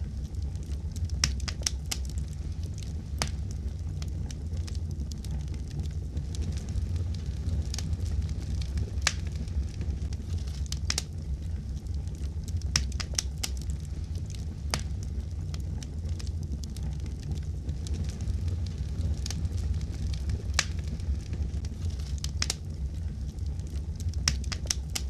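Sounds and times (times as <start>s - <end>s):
fire popping and snapping: 0.0s - 25.0s
wood fire rumbling: 0.0s - 25.0s.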